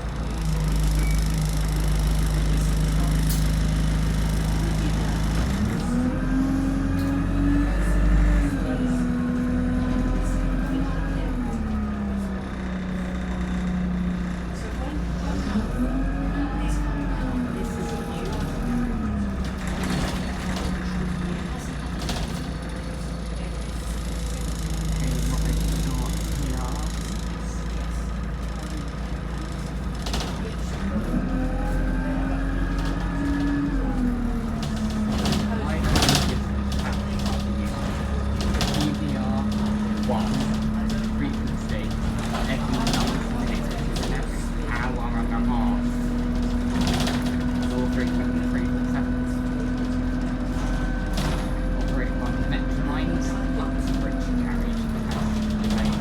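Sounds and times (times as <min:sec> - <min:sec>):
bus engine: 0:00.0 - 0:56.0.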